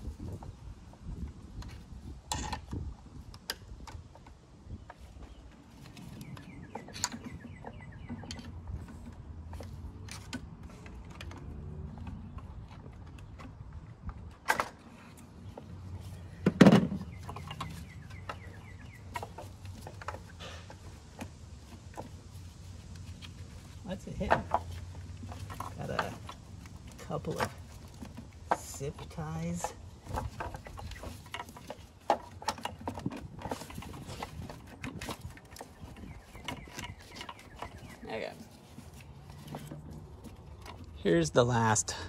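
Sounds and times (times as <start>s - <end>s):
parts clicking and rattling: 1.6s - 41.3s.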